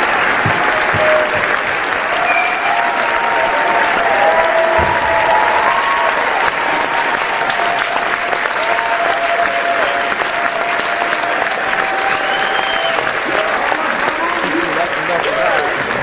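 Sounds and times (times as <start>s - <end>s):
cheering calls: 0.0s - 16.0s
crowd applauding: 0.0s - 16.0s.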